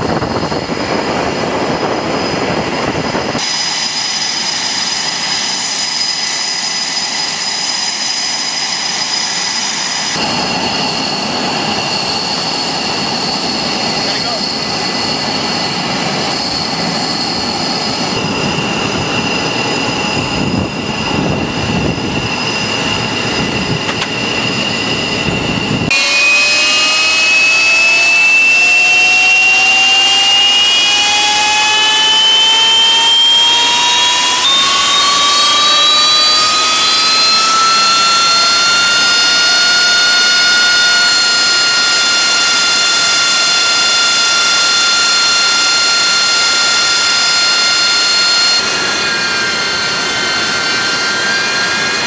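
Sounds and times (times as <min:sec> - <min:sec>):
jet engine whine rising: 0:00.0 - 0:52.0
rushing noise with high tone: 0:00.0 - 0:52.0.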